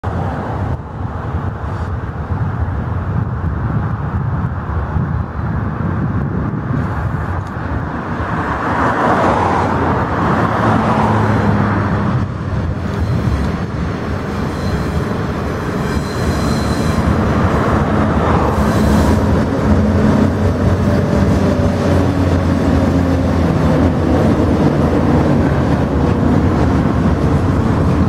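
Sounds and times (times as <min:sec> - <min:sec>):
locomotive engines rumbling: 0:00.0 - 0:28.0.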